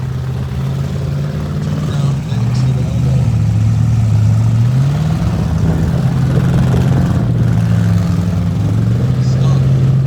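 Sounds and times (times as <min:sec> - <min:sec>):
car engines revving loudly: 0:00.0 - 0:10.0.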